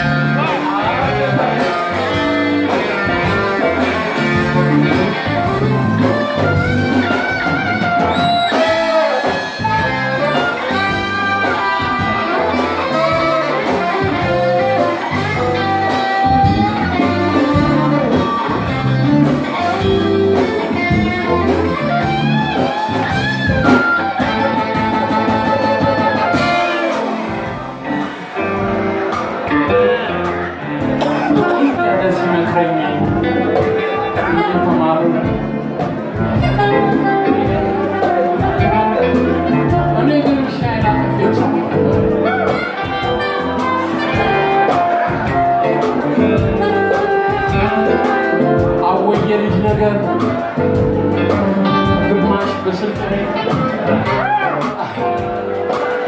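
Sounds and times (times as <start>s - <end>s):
live band playing pop music: 0.0s - 56.0s.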